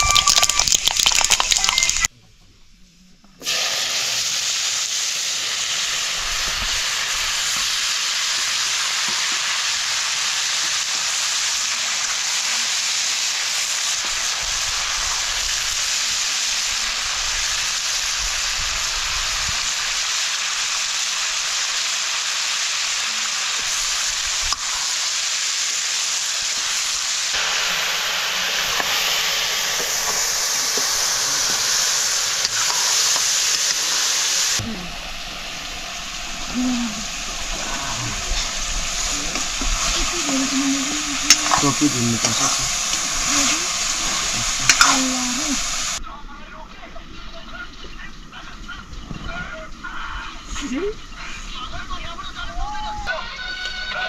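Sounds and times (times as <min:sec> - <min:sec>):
food frying in hot oil: 0:00.0 - 0:02.1, 0:03.4 - 0:46.0.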